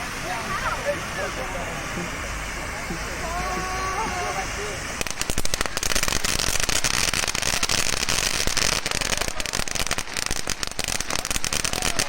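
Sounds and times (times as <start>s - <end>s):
ground firework crackling: 0.0s - 12.0s.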